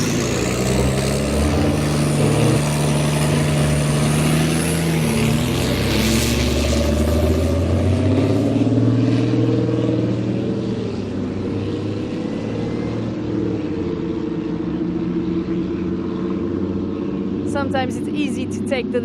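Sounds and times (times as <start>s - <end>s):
truck diesel engine under throttle: 0.0s - 19.0s.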